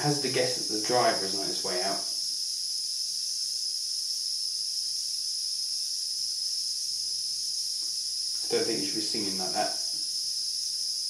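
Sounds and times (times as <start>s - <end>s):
power supply high-pitched whine: 0.0s - 11.0s.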